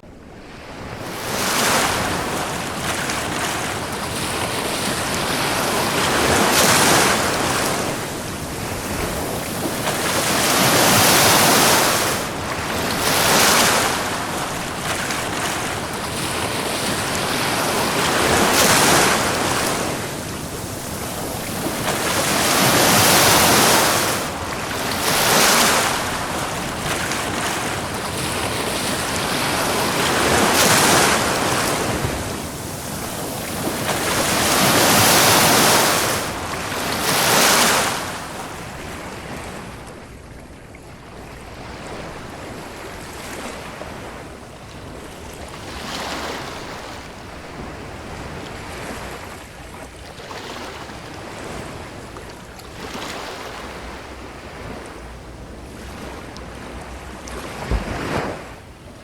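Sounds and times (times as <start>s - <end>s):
ocean surf breaking on beach: 0.3s - 40.2s, 41.2s - 59.0s.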